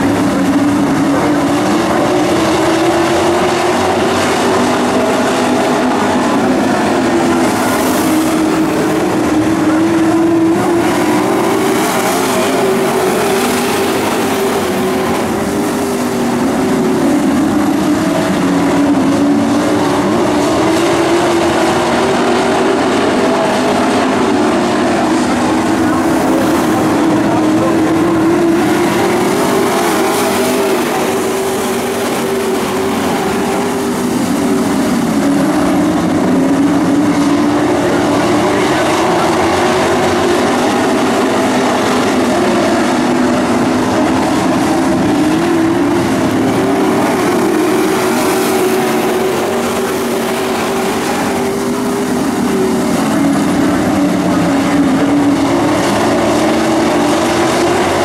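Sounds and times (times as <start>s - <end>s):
race truck engines droning: 0.0s - 58.0s.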